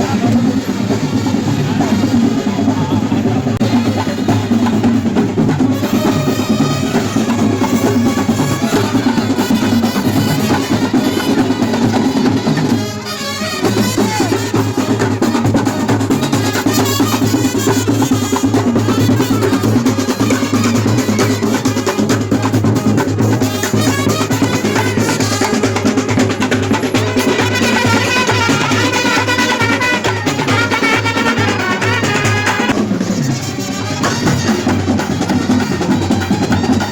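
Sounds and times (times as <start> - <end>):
loud drumming with music: 0.0 - 36.9.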